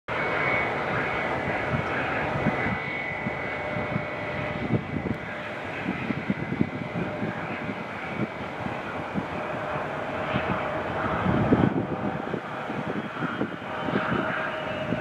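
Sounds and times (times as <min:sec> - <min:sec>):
jet airliner whine: 0:00.1 - 0:15.0.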